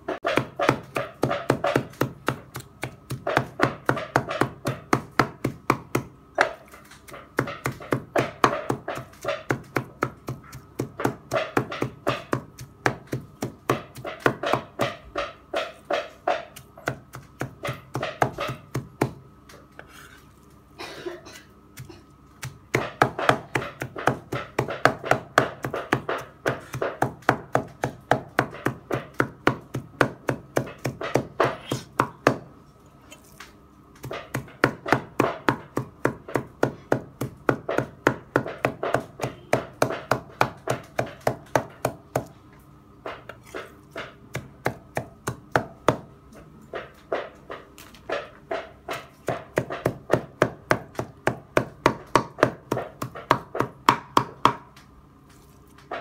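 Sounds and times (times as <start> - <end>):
cleaver chopping on a block: 0.1 - 19.2, 21.8 - 32.5, 34.0 - 42.3, 43.0 - 46.1, 46.7 - 54.8.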